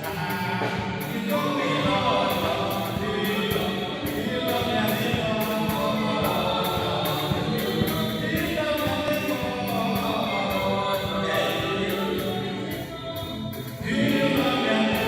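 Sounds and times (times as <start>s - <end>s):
choir singing church song: 0.0s - 15.0s
instrumental backing: 0.0s - 15.0s.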